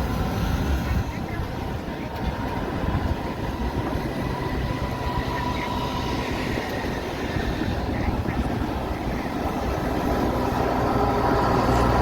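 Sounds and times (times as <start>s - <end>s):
heavy truck rumbling: 0.0s - 12.0s.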